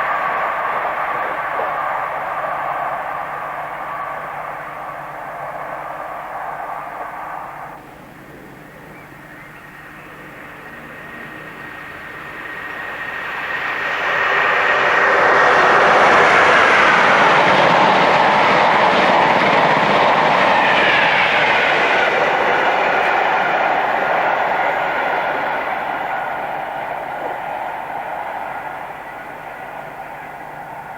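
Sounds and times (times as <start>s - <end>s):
train passing at speed: 0.0s - 30.9s
wheel and rail noise: 0.0s - 30.9s.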